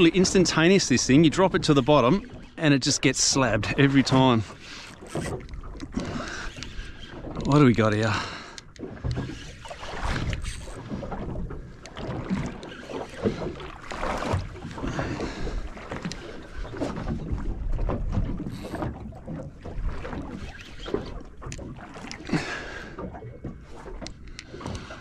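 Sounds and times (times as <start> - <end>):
water slapping boat hull: 0.0 - 25.0.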